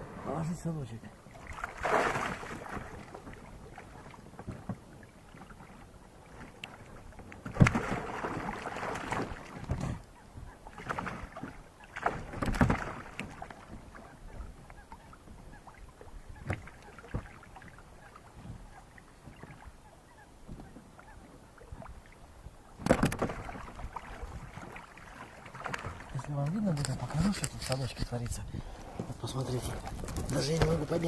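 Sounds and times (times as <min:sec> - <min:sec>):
handling noise in a boat: 0:00.0 - 0:31.0.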